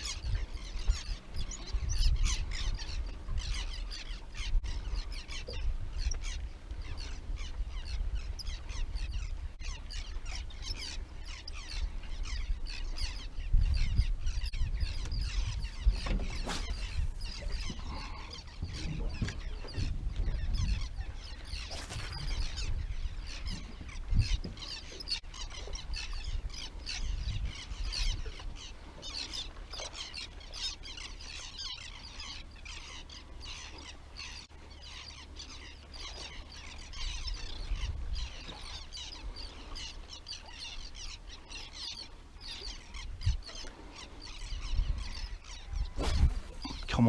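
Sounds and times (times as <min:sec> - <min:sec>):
birds chirping and calling: 0:00.0 - 0:47.0.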